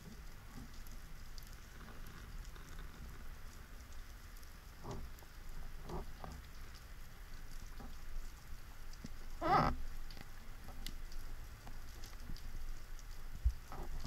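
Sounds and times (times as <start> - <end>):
faint crackling patter: 0.0 - 14.0
underwater low rumble: 0.0 - 14.0
wavering gurgle: 0.0 - 14.0.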